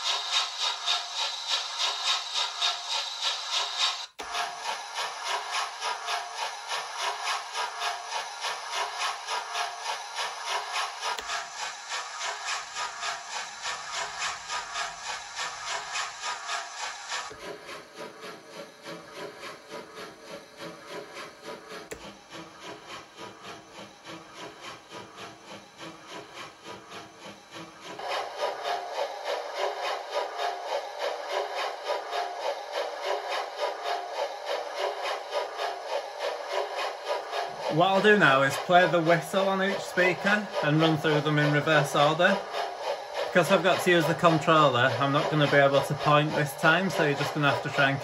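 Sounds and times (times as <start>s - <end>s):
steam locomotive chuffs from speakers: 0.0s - 48.0s.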